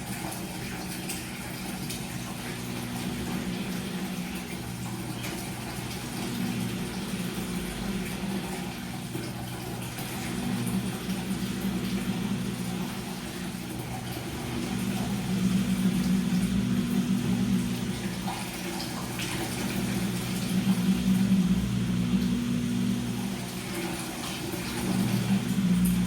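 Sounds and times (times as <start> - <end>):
washing machine running: 0.0 - 26.0
water sloshing in drum: 0.0 - 26.0.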